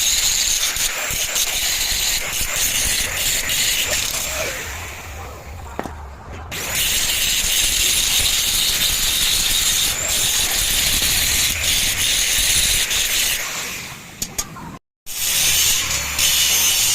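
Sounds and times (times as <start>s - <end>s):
electric arc welding crackling hiss: 0.0s - 5.0s, 6.6s - 13.8s, 15.1s - 16.9s.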